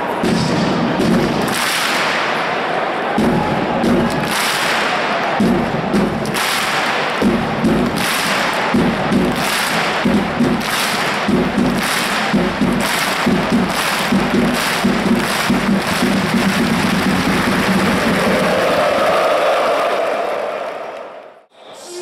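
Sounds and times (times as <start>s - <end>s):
stadium crowd chanting: 0.0s - 22.0s
sharp rhythmic claps: 0.2s - 21.4s.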